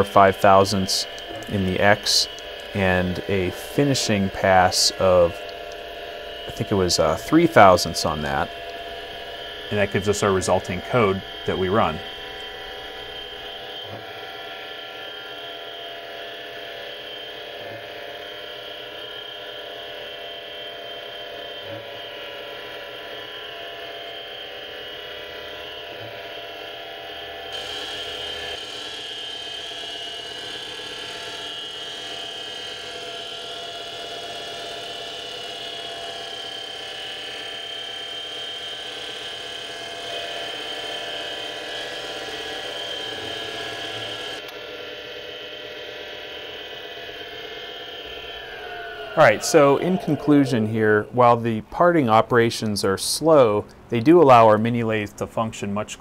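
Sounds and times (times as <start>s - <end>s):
tool cutting steel: 0.0s - 51.4s
lathe motor whining: 0.0s - 54.4s.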